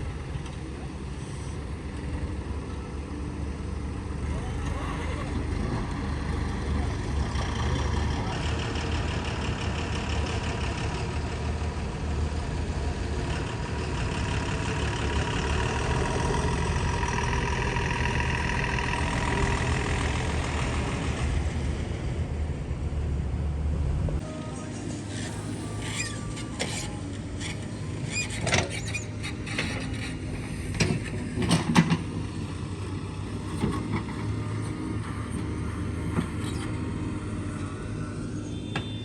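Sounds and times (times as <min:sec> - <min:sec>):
diesel machinery rumbling: 0:00.0 - 0:39.0.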